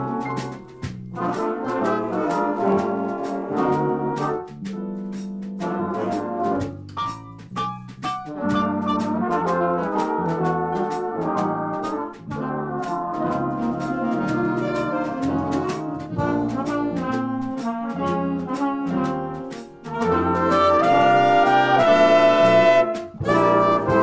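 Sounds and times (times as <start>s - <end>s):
bass: 0.0s - 24.0s
drum and cymbal beat: 0.0s - 24.0s
piano: 0.0s - 24.0s
saxophone section: 1.2s - 4.6s, 5.6s - 6.8s, 8.4s - 24.0s.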